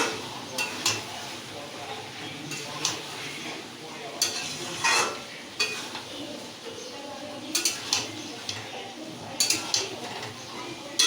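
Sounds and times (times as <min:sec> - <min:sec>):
spatula scraping a pan: 0:00.0 - 0:06.7, 0:07.4 - 0:11.0
low sizzle: 0:00.0 - 0:11.0.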